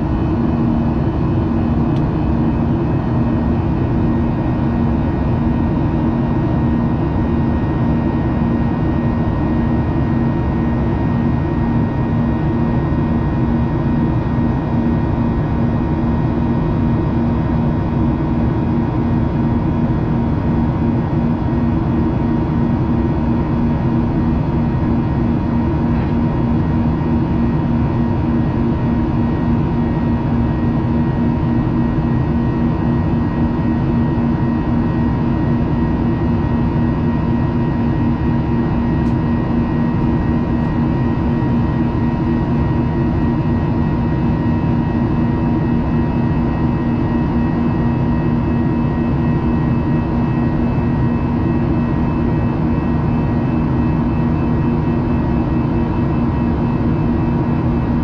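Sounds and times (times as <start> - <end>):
jet engines and airflow roar: 0.0 - 58.0
steady low hum: 0.0 - 58.0.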